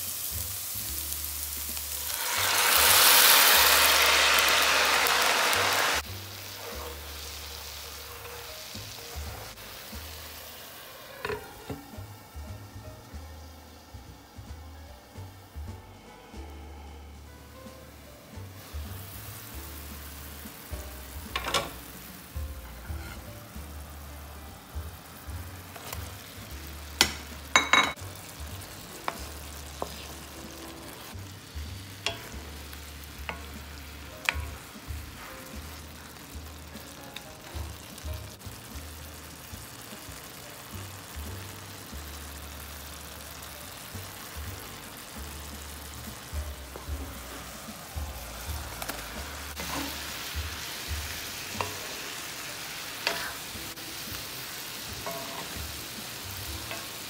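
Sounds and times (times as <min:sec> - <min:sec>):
chicken sizzling in a skillet: 0:00.0 - 0:57.0.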